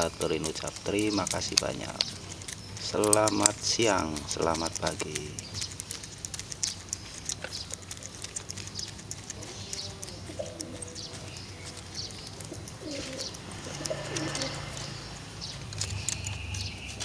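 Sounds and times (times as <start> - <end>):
light clicks and chirps: 0.0 - 17.0
pigeons cooing: 0.0 - 17.0.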